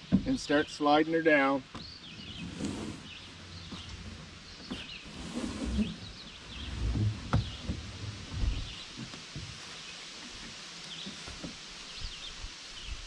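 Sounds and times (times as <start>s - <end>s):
small birds chirping: 0.0s - 13.0s
kayak sliding with thumps: 1.4s - 12.2s.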